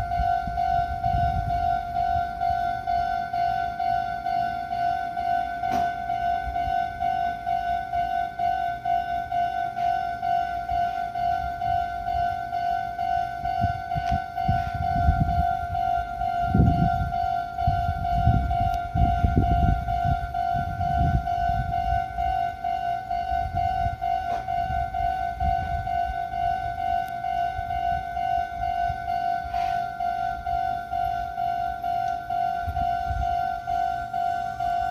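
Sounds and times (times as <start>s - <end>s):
electric train rumble: 0.0s - 34.9s
level crossing alarm ringing: 0.0s - 34.9s.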